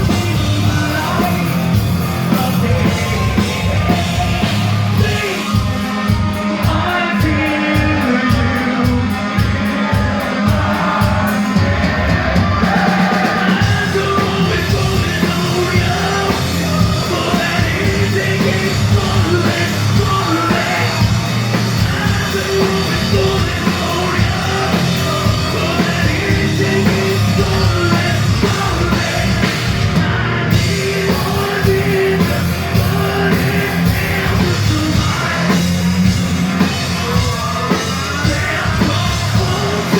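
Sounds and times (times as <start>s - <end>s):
live metal band playing: 0.0s - 39.9s
person singing and yelling: 0.0s - 39.9s.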